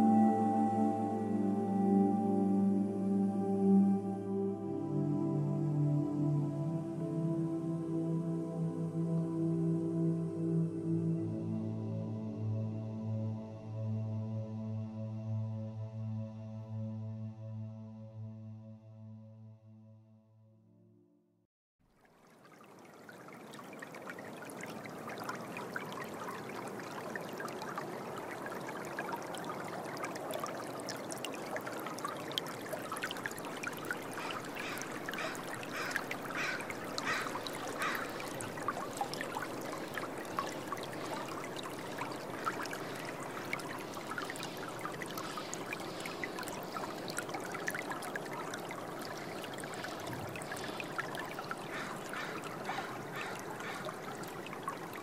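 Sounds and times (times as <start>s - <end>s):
trickling stream: 0.0s - 10.9s, 21.8s - 55.0s.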